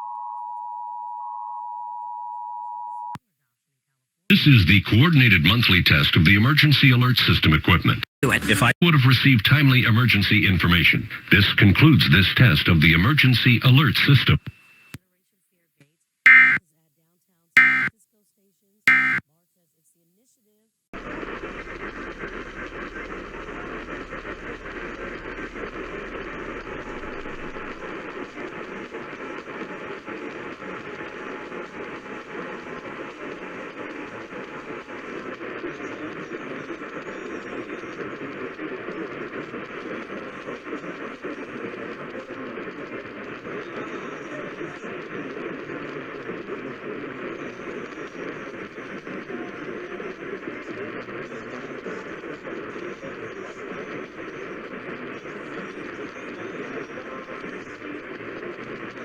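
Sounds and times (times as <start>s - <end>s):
radio static hiss: 4.3s - 15.0s, 16.3s - 16.6s, 17.6s - 17.9s, 18.9s - 19.2s, 21.0s - 59.0s.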